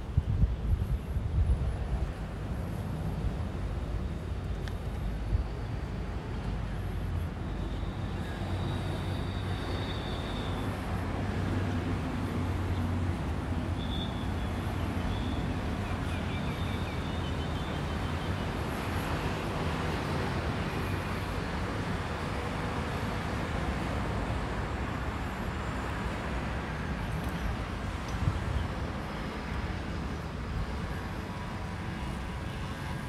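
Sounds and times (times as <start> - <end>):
traffic engine hum: 0.1 - 33.0.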